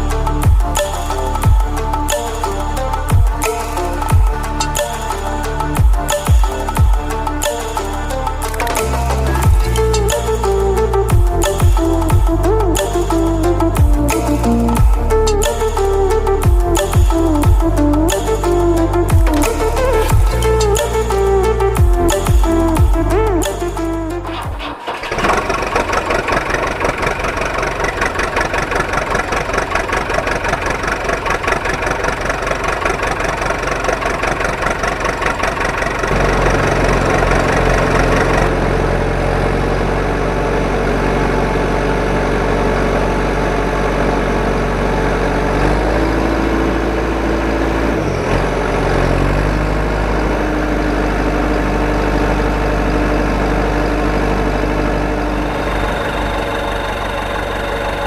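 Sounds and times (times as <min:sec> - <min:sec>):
deep engine hum: 0:00.0 - 0:58.0
engine chugging: 0:00.0 - 0:58.0.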